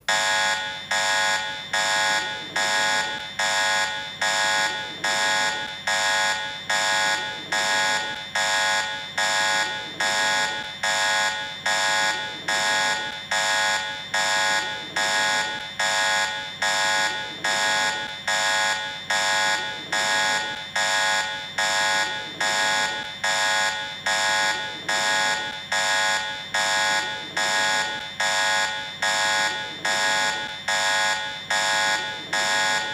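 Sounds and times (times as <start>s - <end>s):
electronic alarm beeping: 0.0s - 32.9s.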